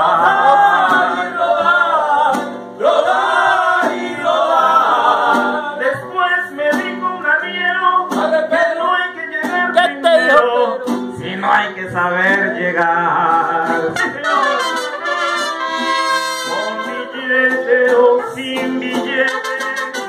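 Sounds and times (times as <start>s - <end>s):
man singing: 0.0s - 2.5s, 3.4s - 20.0s
strummed guitars: 0.0s - 20.0s.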